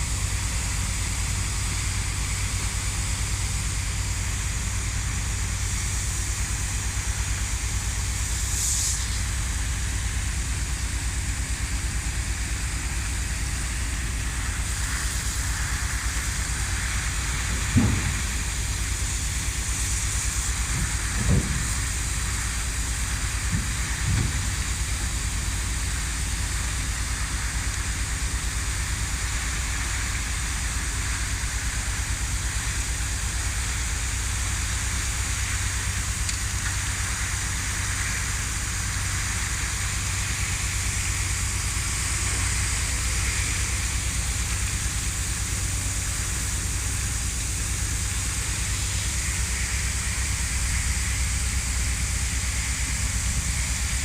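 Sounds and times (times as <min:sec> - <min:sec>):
continuous hiss: 0:00.0 - 0:54.0
low mechanical hum: 0:00.0 - 0:54.0.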